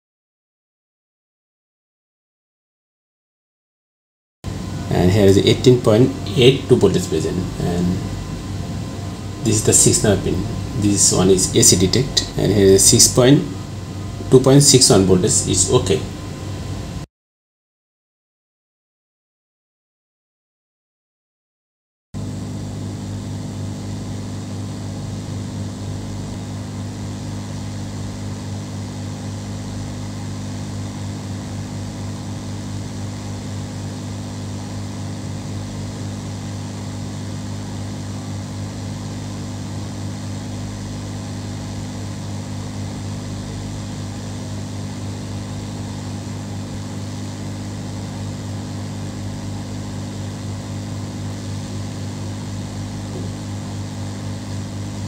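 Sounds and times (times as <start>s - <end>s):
electric fan motor humming: 4.4s - 17.1s, 22.2s - 55.0s.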